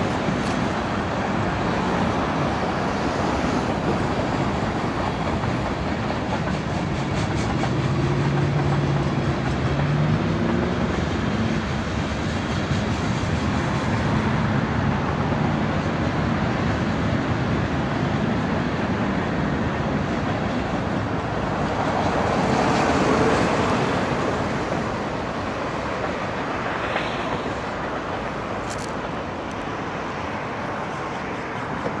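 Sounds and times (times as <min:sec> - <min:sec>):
freight train cars rumbling: 0:00.0 - 0:32.0
road traffic noise: 0:00.0 - 0:32.0.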